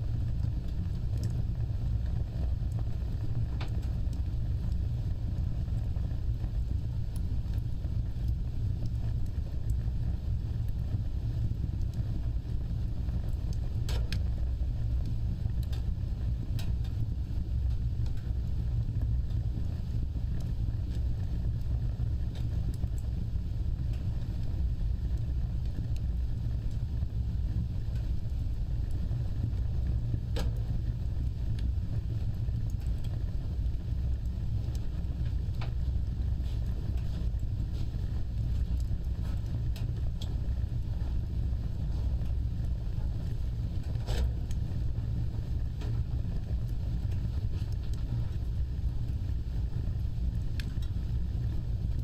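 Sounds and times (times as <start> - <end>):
wood fire crackling and roaring: 0.0 - 52.0.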